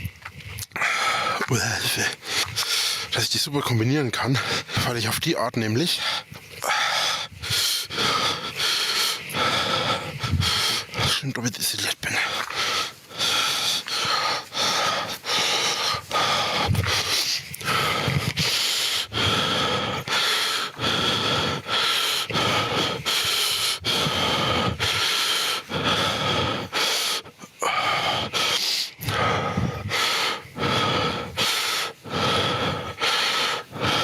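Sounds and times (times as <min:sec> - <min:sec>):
man breathing heavily: 0:00.0 - 0:34.0.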